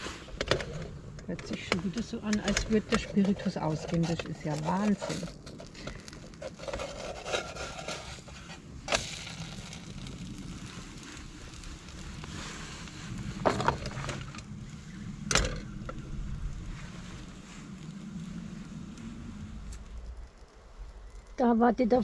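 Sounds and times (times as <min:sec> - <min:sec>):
stove flame burning: 0:00.0 - 0:22.0
wind rumble on microphone: 0:00.0 - 0:22.0.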